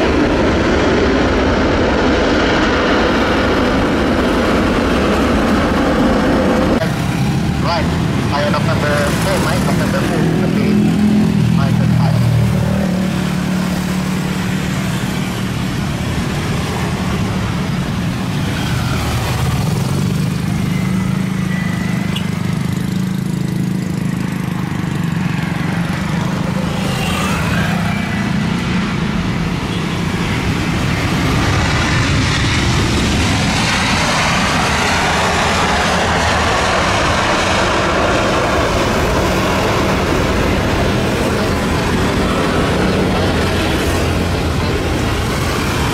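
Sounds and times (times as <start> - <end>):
jet airliner approaching: 0.0 - 45.9.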